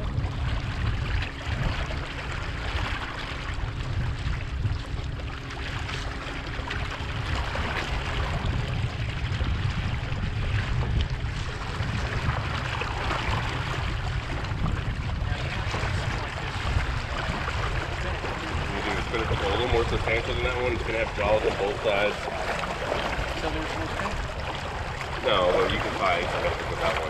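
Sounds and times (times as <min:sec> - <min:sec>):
low rumble: 0:00.0 - 0:27.0
water rushing along boat hull: 0:00.0 - 0:27.0.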